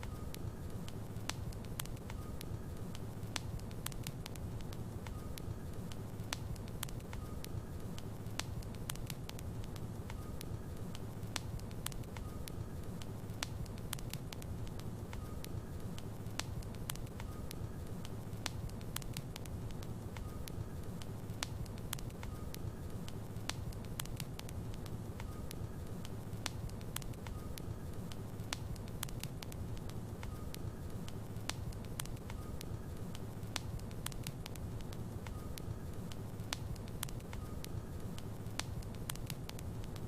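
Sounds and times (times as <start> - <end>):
wood crackling and popping: 0.0 - 40.0.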